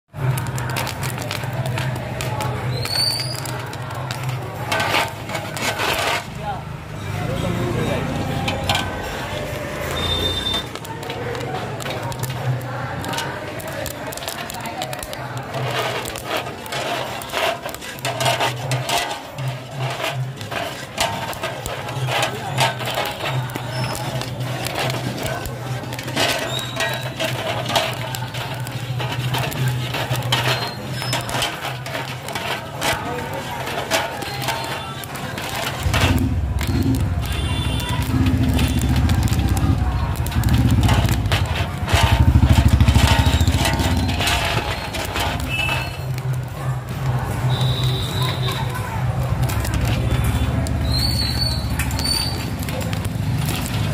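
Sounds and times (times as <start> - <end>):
kernels rattling in metal pot: 0.1 - 53.9
popcorn crackling and scraping: 0.1 - 53.9.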